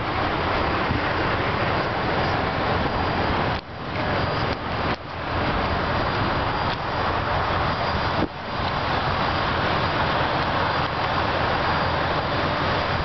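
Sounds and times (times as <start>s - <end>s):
highway traffic roar: 0.0s - 13.0s.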